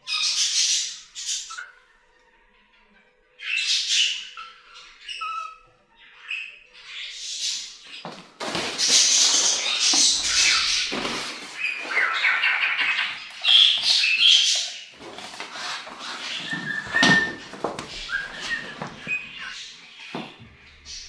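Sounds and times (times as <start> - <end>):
budgerigars chattering: 0.0 - 1.8, 3.4 - 21.0.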